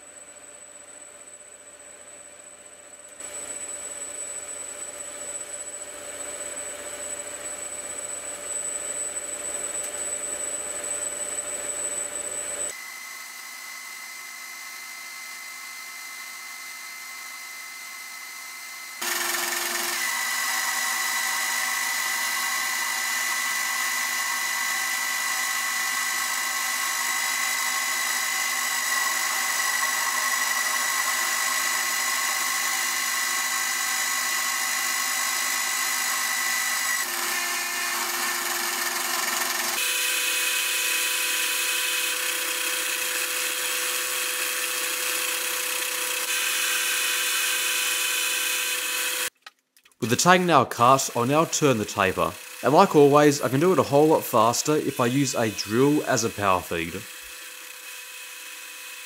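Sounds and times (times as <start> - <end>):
metal lathe whining: 8.5 - 49.3, 50.0 - 59.0.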